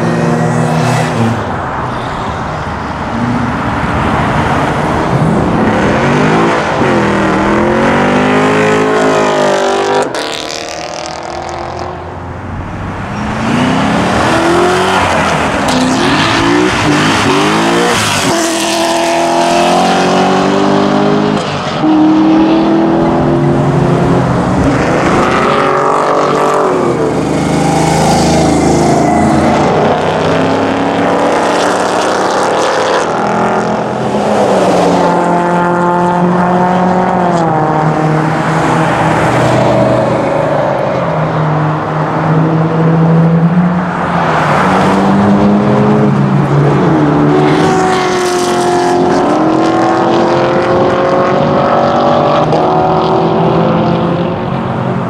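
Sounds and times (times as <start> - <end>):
cars accelerating hard past: 3.1 - 55.0.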